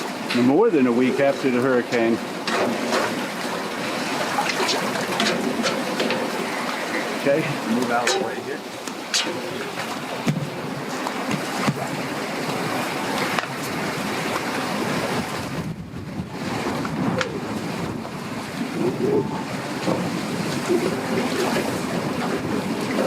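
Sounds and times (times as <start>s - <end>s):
boat engine running: 0.0s - 23.0s
water splashing: 0.0s - 23.0s
wind buffeting microphone: 0.0s - 23.0s.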